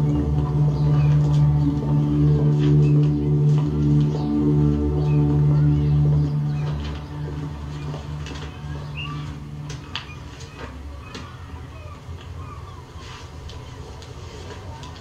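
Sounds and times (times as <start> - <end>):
low music drone: 0.0 - 12.8.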